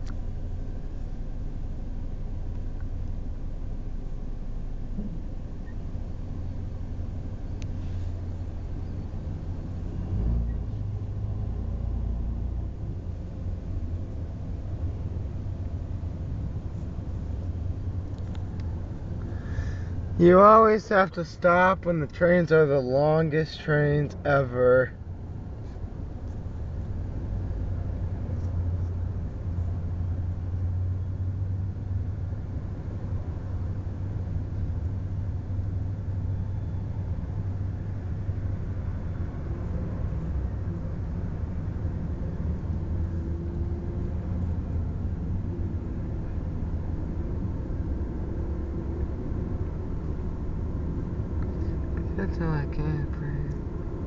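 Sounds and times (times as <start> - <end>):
car engine idling: 0.0 - 43.2, 44.5 - 54.0.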